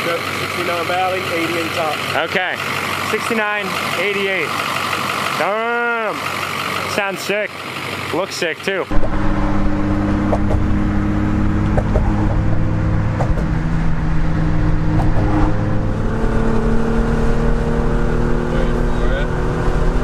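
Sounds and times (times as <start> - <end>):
car engine drone: 0.0 - 20.0
road rumble: 0.0 - 20.0.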